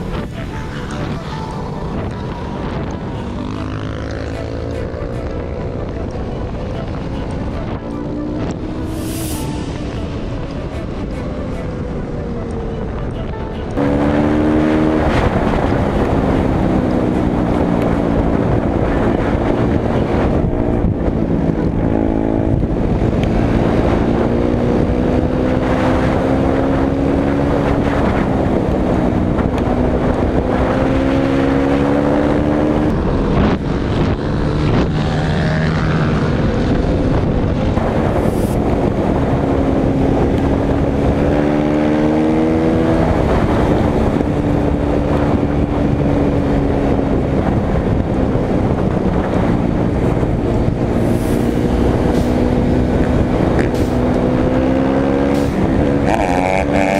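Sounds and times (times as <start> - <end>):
off-road vehicle engine accelerating: 0.0 - 56.9
wind noise on microphone: 0.0 - 56.9.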